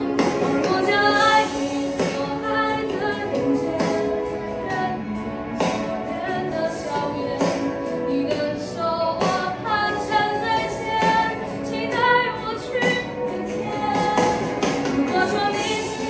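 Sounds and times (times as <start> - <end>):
music with steady beat: 0.0 - 16.0.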